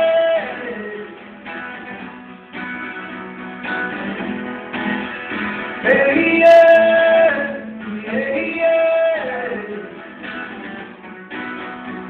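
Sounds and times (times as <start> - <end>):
acoustic guitars strummed: 0.0 - 12.0.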